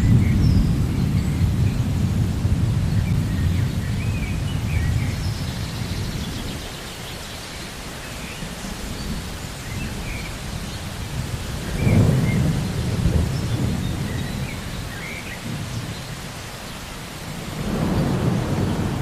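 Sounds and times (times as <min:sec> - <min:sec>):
rolling thunder rumble: 0:00.0 - 0:06.7, 0:09.0 - 0:16.4, 0:17.3 - 0:19.0
rain: 0:00.0 - 0:19.0.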